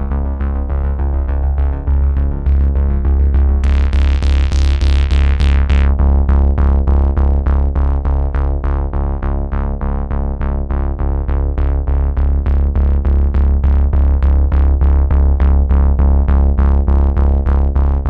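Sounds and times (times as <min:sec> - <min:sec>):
pulsing bass: 0:00.0 - 0:18.0.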